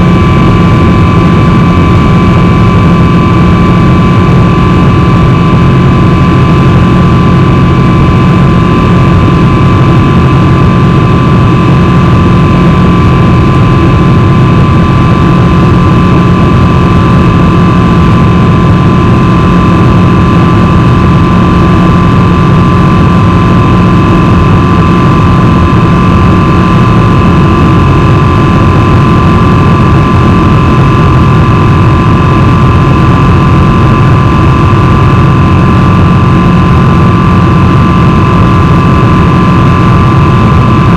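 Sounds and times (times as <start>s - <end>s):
high whine: 0.0s - 40.9s
jet engine drone in cabin: 0.0s - 40.9s.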